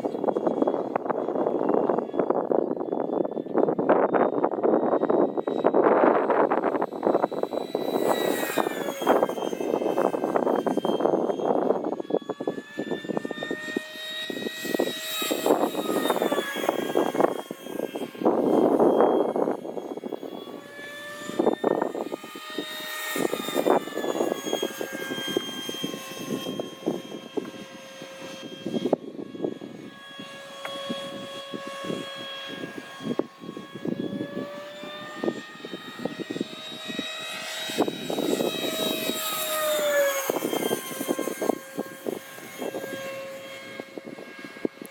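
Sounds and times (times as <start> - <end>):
electric ducted fan whining: 0.0 - 44.9
wind rumbling on microphone: 0.0 - 44.9.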